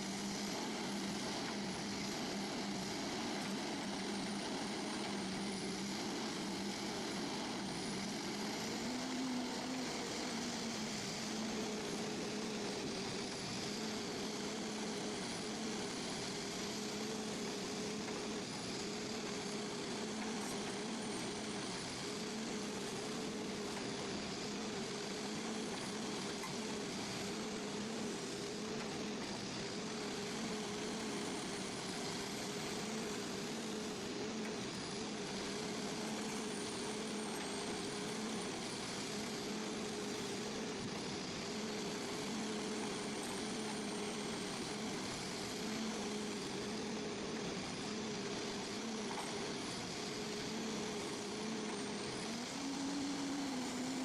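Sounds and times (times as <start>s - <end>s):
heavy machine engine whining: 0.0s - 54.0s.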